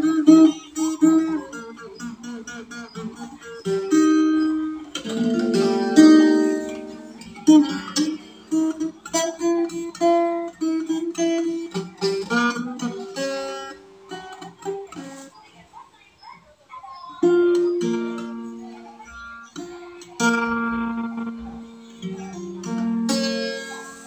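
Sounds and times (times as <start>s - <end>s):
strummed guitar chords: 0.0s - 15.3s, 17.2s - 24.0s
acoustic guitar picked notes: 0.0s - 24.0s.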